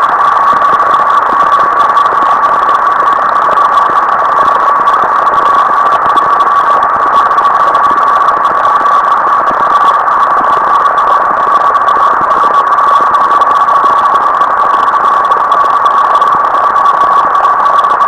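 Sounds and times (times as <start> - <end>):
constant electronic tone: 0.0 - 18.0
dense electronic noise: 0.0 - 18.0.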